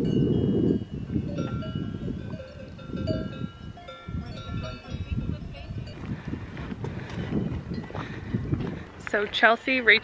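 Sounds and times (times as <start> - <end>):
cowbells ringing and clanking: 0.0 - 8.1
wind rumble on microphone: 0.0 - 10.0.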